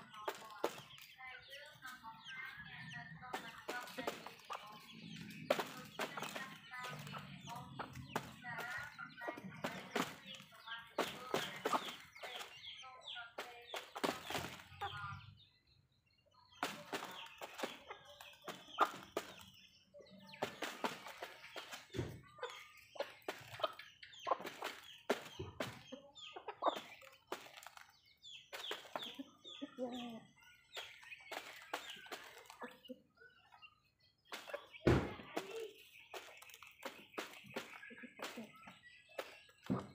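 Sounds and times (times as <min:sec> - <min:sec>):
hens and rooster clucking: 0:00.0 - 0:15.4, 0:16.5 - 0:39.9
beaks pecking cardboard and concrete: 0:00.0 - 0:39.9.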